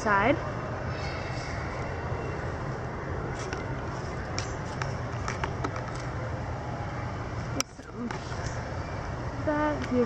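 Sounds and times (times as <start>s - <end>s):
outdoor rumble and hiss: 0.0s - 10.0s.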